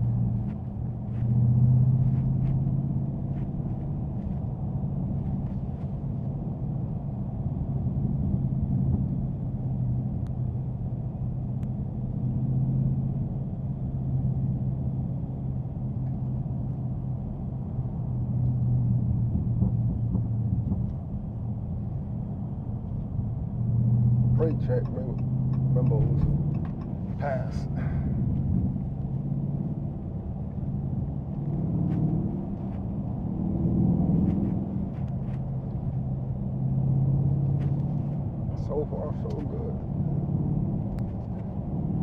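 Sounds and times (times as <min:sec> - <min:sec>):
car engine droning: 0:00.0 - 0:42.0
road noise: 0:00.0 - 0:42.0.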